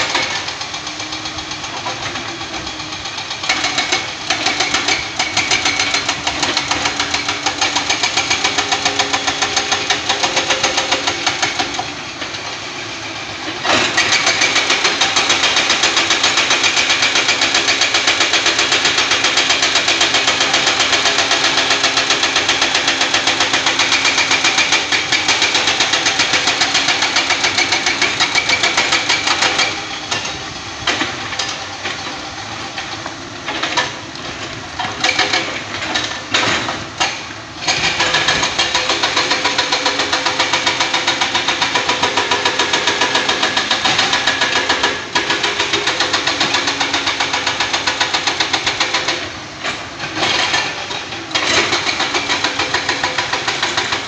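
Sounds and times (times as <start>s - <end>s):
excavator diesel engines running: 0.0s - 54.0s.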